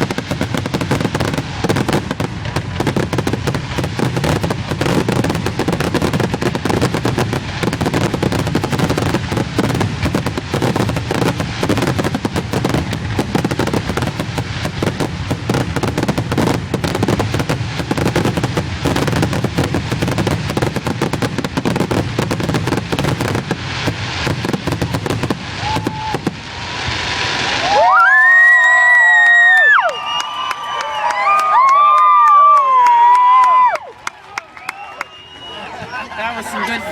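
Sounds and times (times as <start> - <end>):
fireworks cracking and popping: 0.0 - 36.9.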